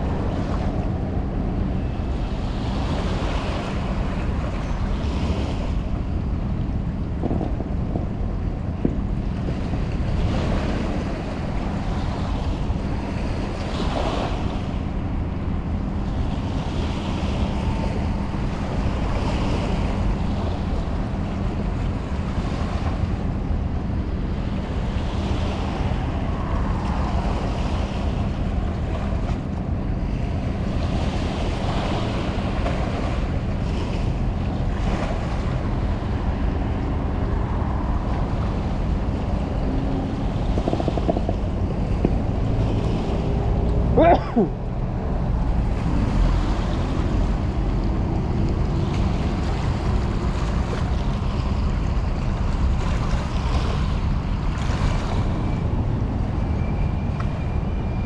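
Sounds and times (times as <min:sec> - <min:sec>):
rushing water: 0:00.0 - 0:58.0
wind buffeting microphone: 0:00.0 - 0:58.0.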